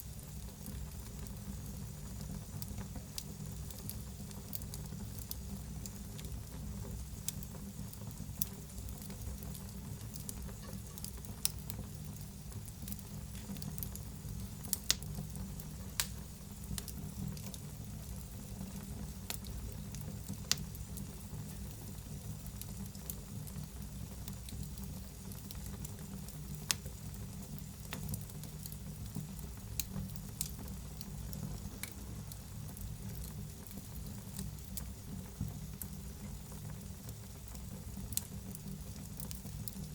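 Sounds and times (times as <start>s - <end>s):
fireplace fire crackling and popping: 0.0s - 39.9s
low rumble of flames: 0.0s - 39.9s.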